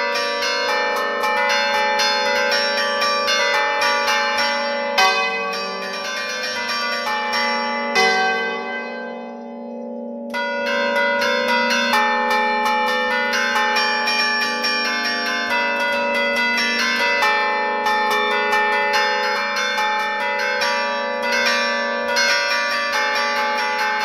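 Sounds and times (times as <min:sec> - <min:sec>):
church bells ringing a tune: 0:00.0 - 0:24.0.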